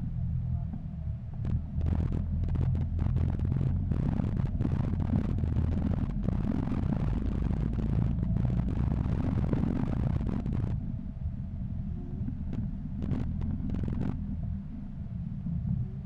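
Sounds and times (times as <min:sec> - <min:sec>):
wind noise on microphone: 0:01.4 - 0:16.0.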